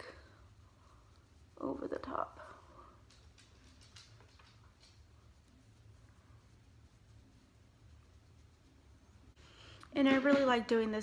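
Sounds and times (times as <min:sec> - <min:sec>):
low room hum: 0:00.0 - 0:11.0
soft brush swishes: 0:00.0 - 0:11.0.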